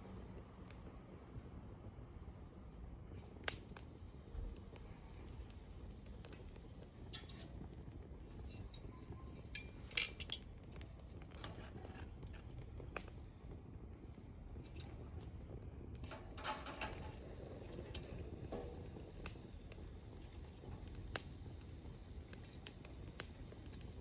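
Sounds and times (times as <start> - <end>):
low steady fire rumble: 0.0 - 24.0
fire clicks and clinks: 2.4 - 24.0.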